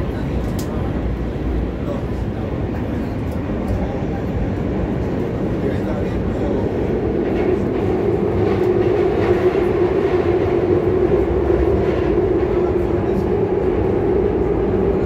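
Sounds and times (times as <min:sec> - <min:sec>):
metro train wheels rumbling: 0:00.0 - 0:15.0.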